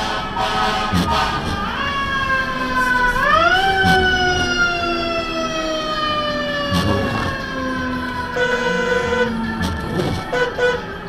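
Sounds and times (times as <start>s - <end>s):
fire truck siren wailing: 0.0s - 11.0s.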